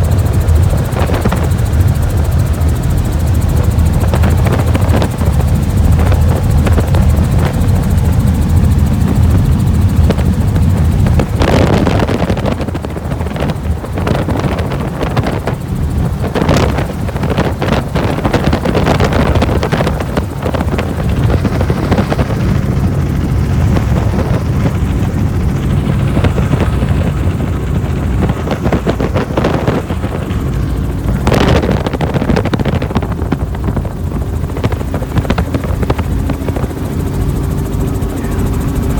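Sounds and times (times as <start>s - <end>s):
helicopter rotor and engine throb: 0.0s - 38.9s.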